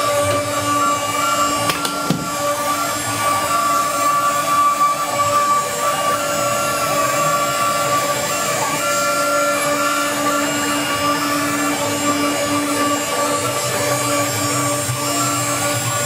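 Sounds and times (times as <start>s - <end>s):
router spindle running: 0.0s - 16.0s
stepper motors whining: 0.0s - 16.0s.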